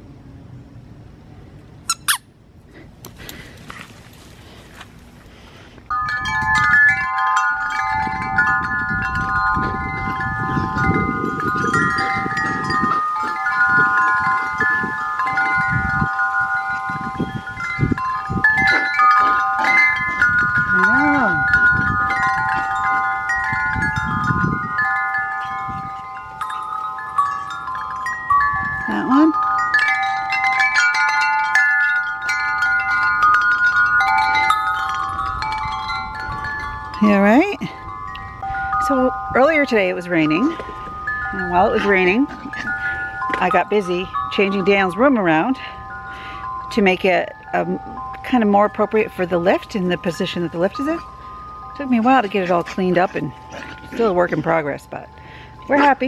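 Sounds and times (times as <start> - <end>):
metal wind chimes ringing: 5.9 - 56.0.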